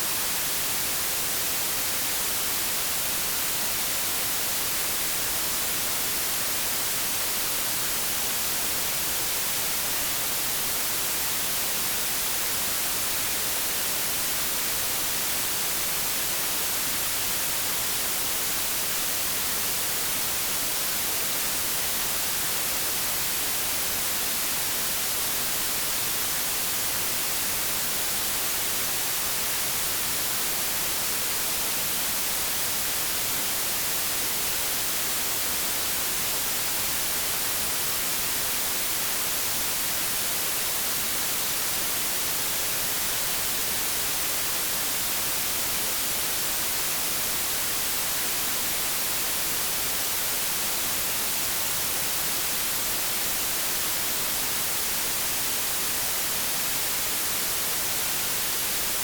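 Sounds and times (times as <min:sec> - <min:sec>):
white noise static hiss: 0:00.0 - 0:59.0.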